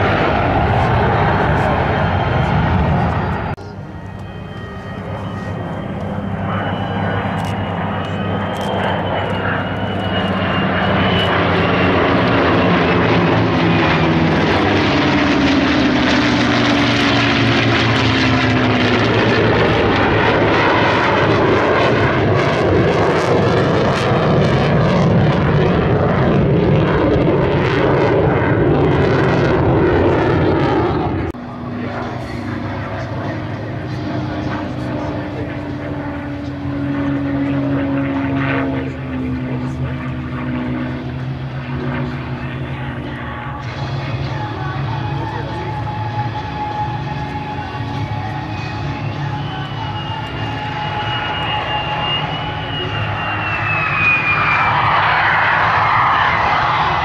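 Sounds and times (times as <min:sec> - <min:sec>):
jet engine rush: 0:00.0 - 0:57.0
piston engine aircraft drone: 0:00.0 - 0:57.0.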